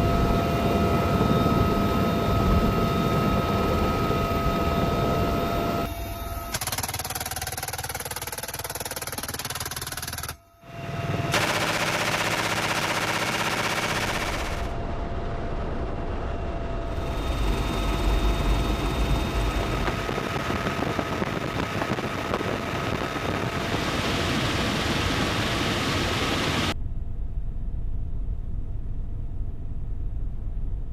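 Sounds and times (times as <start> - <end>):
minigun firing continuous buzz: 0.0 - 26.8.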